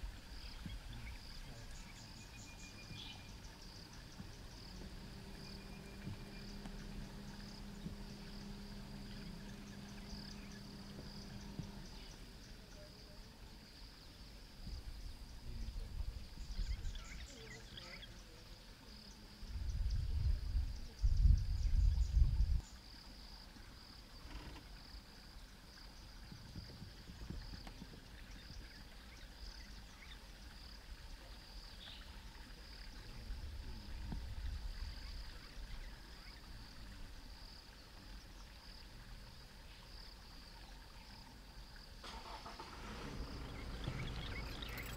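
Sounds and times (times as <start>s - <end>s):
faint low rumble: 0.0s - 44.9s
high-pitched insect chorus: 0.0s - 44.9s.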